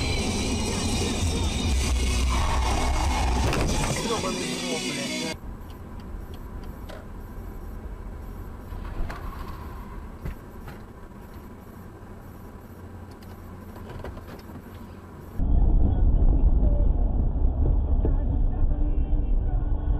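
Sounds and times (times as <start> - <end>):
car engine and road rumble: 0.0 - 19.9.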